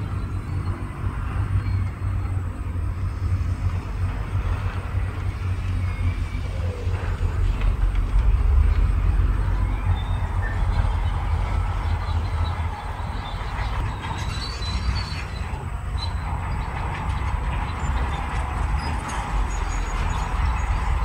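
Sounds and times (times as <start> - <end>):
heavy diesel machinery rumble: 0.0 - 21.0.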